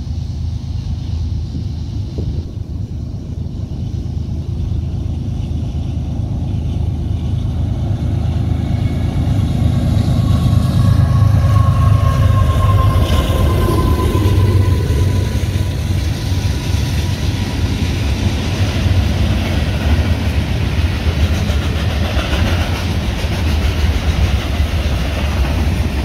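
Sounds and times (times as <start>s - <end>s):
locomotive engine rumble: 0.0s - 26.0s.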